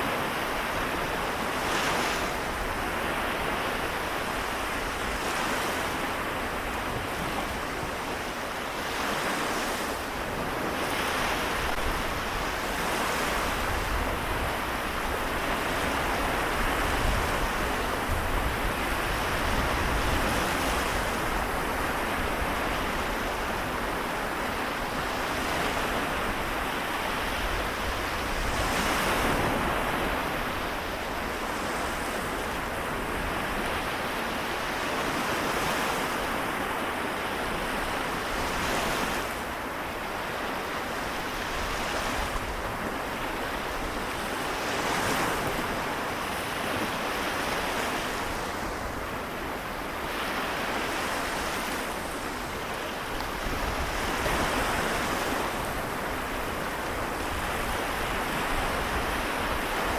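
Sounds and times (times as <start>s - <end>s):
waves washing onto shore: 0.0s - 59.9s.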